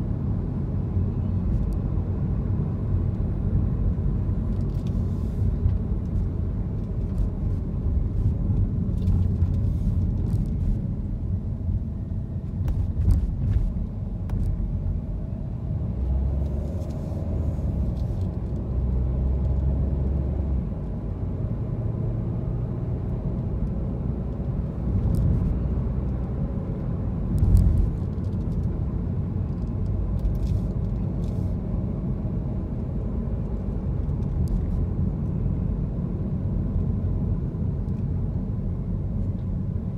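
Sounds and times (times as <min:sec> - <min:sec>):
car driving road noise: 0:00.0 - 0:39.9.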